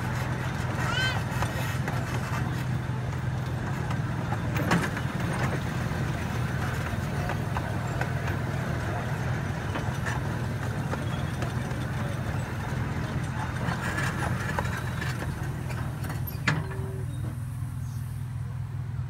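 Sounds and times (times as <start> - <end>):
miniature train rumbling: 0.0 - 19.0.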